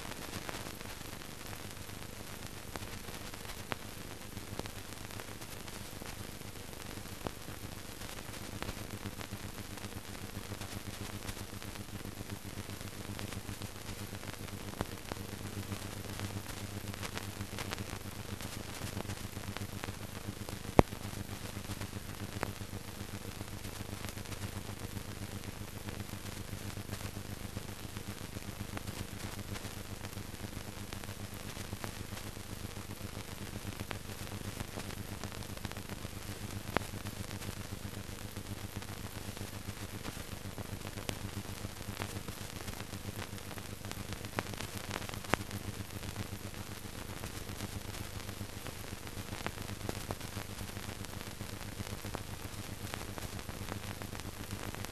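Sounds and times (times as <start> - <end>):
clicks and crackle: 0.0 - 54.9
film soundtrack hiss: 0.0 - 54.9
low mains hum: 0.0 - 54.9.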